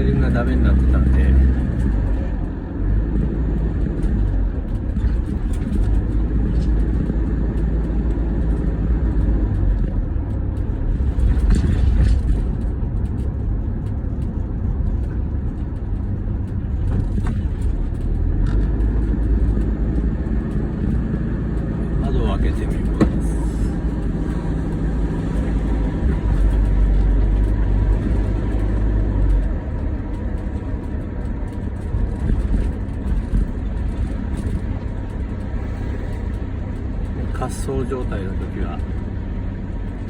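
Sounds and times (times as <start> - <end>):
van road and engine rumble: 0.0 - 40.0.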